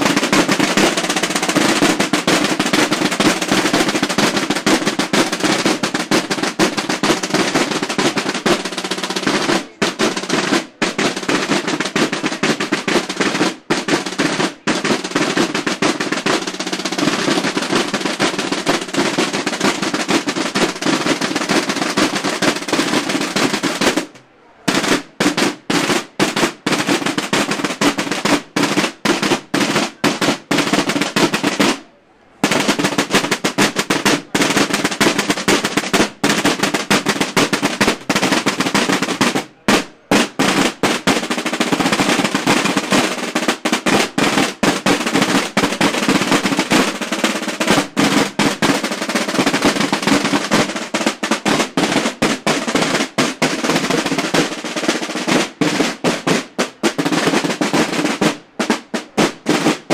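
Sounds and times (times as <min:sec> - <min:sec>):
group of drums rolling rhythm: 0:00.0 - 0:59.9.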